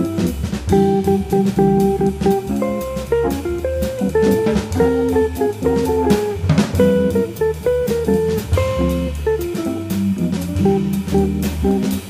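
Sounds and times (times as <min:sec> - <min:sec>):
bass notes: 0:00.0 - 0:12.0
drum kit with cymbals: 0:00.0 - 0:12.0
electric jazz guitar melody: 0:00.0 - 0:12.0.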